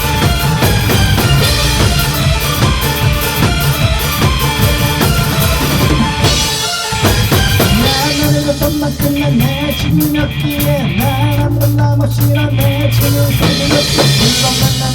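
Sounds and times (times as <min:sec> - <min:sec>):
drum kit beat: 0:00.0 - 0:14.9
live electronic rock band: 0:00.0 - 0:14.9.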